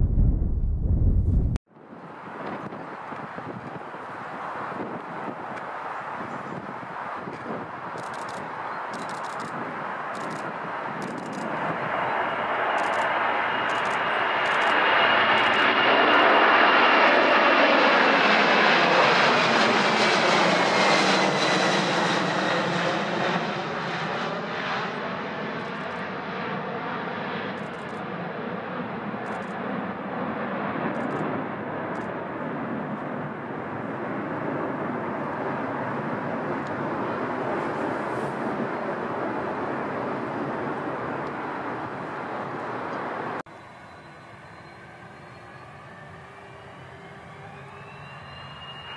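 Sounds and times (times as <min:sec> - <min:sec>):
jet engines roaring overhead: 0:00.0 - 0:48.9.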